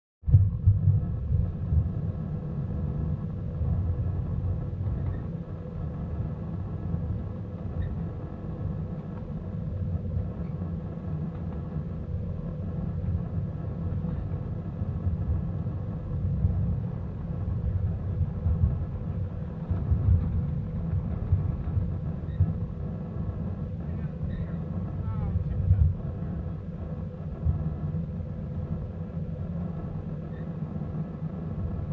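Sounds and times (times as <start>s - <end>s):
faint steady hum: 0.3s - 31.9s
train wheels rumbling on rails: 0.3s - 31.9s.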